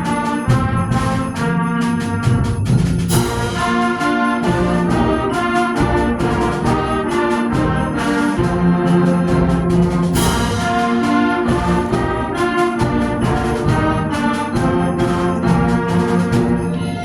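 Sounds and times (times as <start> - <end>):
brass and wind chords: 0.0 - 17.0
percussion strokes: 0.0 - 17.0.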